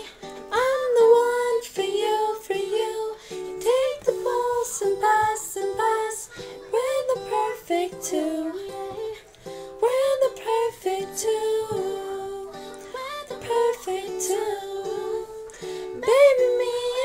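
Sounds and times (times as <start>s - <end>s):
plucked strings: 0.0s - 17.0s
woman singing: 0.0s - 17.0s.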